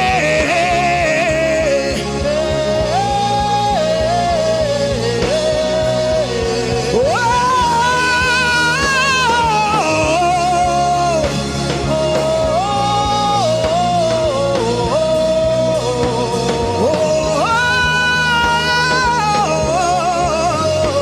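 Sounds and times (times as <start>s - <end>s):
worship music: 0.0s - 21.0s.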